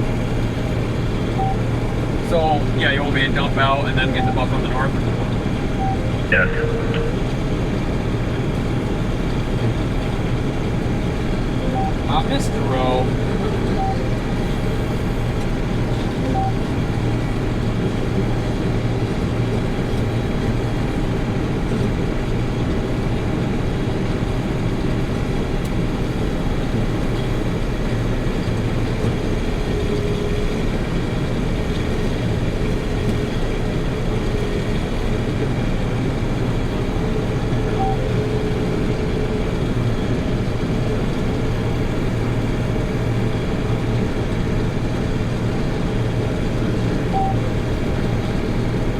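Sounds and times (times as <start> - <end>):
combine harvester droning: 0.0 - 48.9.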